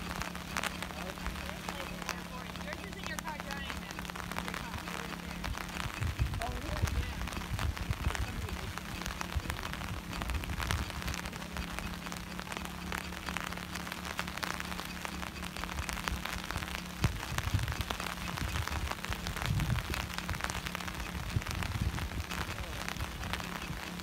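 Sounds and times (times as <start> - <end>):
rain pattering: 0.0 - 24.0
steady low hum: 0.0 - 24.0.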